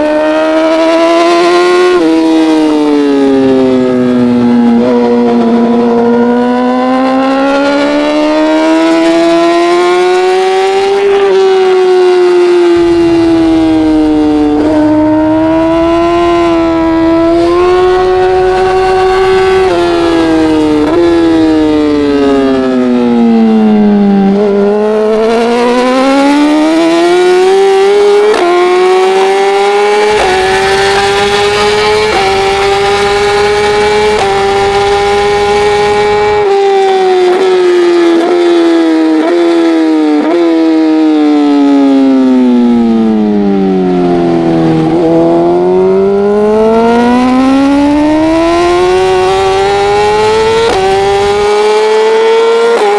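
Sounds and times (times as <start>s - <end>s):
racing motorcycle engine revving: 0.0s - 52.9s.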